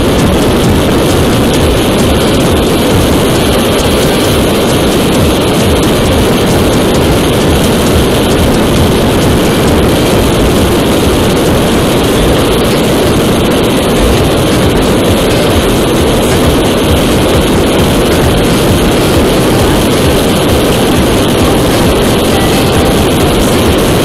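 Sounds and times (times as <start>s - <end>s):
motorcycle engine running: 0.0s - 24.0s
road noise: 0.0s - 24.0s
wind rushing over microphone: 0.0s - 24.0s.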